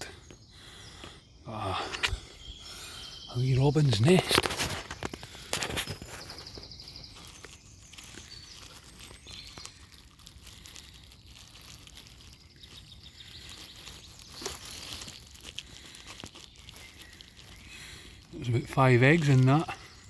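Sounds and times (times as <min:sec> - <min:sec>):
birdsong trills and chirps: 0:00.0 - 0:20.0
rustling vegetation: 0:00.0 - 0:20.0.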